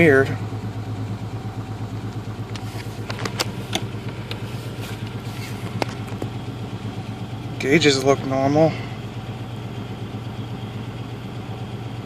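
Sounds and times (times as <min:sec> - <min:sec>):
engine idling roughly: 0:00.0 - 0:12.0.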